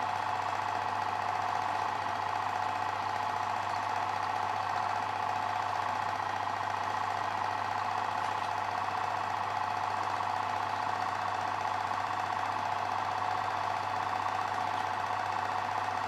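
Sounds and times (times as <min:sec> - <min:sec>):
film projector clattering: 0:00.0 - 0:16.0.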